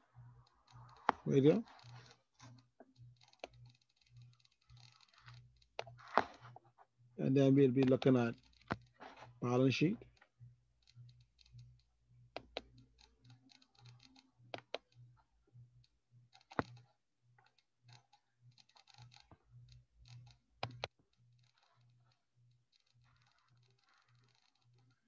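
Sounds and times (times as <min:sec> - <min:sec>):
computer mouse clicks: 0:00.1 - 0:06.6, 0:07.6 - 0:09.4, 0:10.0 - 0:15.2, 0:15.8 - 0:25.0.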